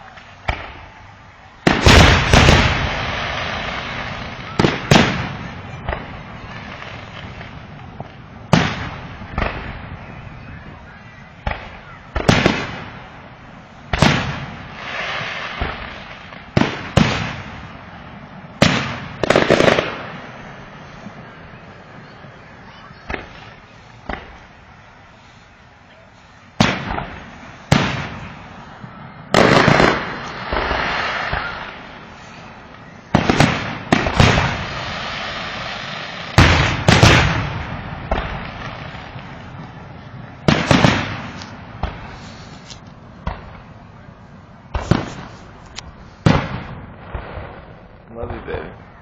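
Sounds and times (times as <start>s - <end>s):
fireworks bangs: 0.0s - 49.0s
fireworks crackle: 0.0s - 49.0s.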